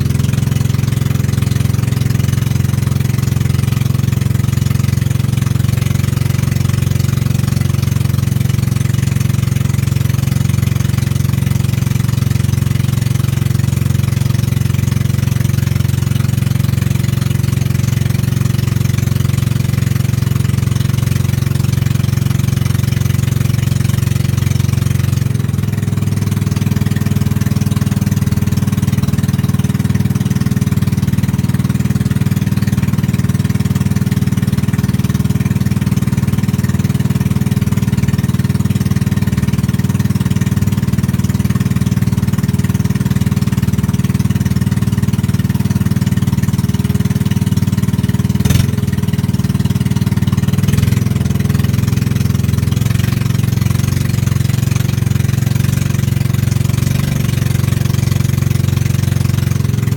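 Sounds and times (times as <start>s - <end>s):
motorboat engine humming: 0.0s - 59.9s.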